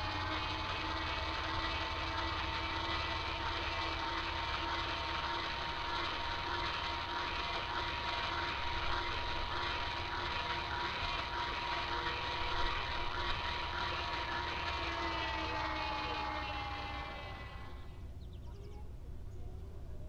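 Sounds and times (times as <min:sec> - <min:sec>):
toy boat motor whine: 0:00.0 - 0:18.2.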